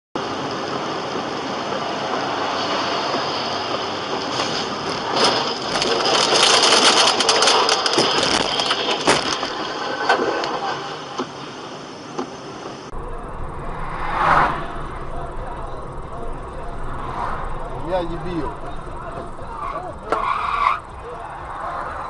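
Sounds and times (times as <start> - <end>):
vehicle road noise: 0.2 - 22.0.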